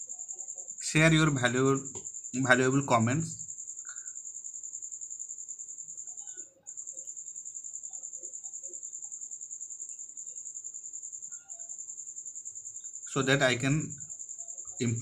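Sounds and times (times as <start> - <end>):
cricket trilling: 0.0 - 15.0
faint scattered chirps: 0.0 - 15.0.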